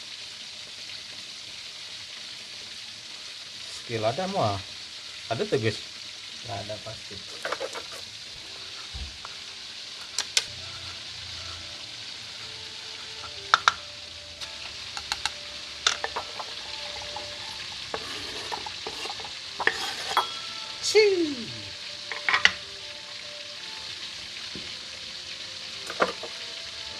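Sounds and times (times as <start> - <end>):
fish sizzling in hot oil: 0.0 - 26.9.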